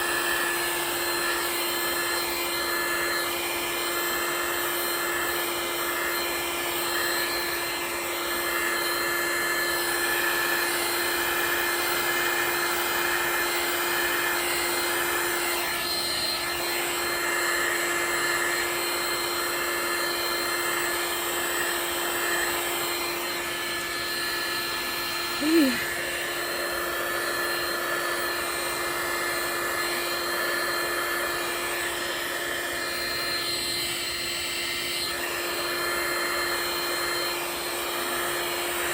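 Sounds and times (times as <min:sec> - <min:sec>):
hot-air blower motor hum: 0:00.0 - 0:38.9.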